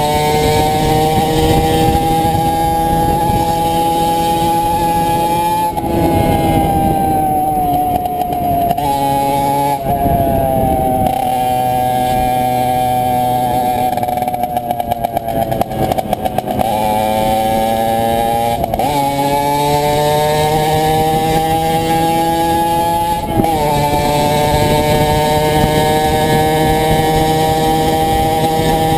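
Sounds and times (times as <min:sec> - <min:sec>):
two-stroke motorcycle engine: 0:00.0 - 0:28.9.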